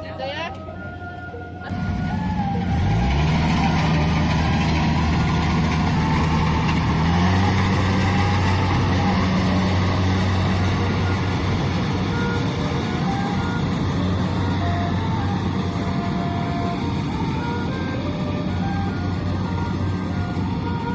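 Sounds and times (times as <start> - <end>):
combine harvester diesel engine: 0.0 - 20.9.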